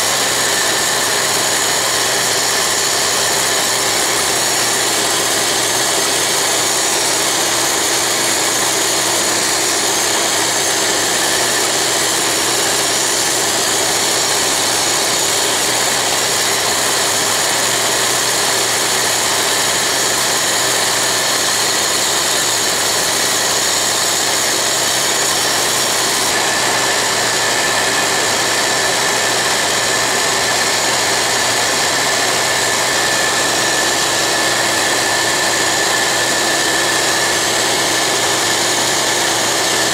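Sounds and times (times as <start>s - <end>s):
grinder wheel grinding steel: 0.0s - 39.9s
vacuum cleaner running: 0.0s - 39.9s.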